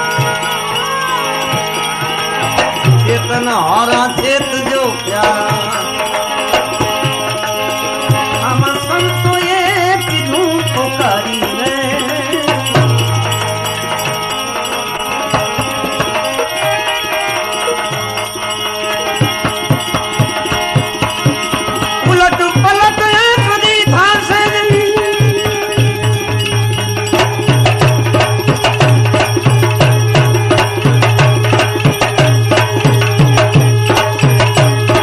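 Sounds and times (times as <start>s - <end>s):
drum strokes: 0.0s - 35.0s
jingling percussion: 0.0s - 35.0s
wavering melody over sustained tones: 0.0s - 35.0s.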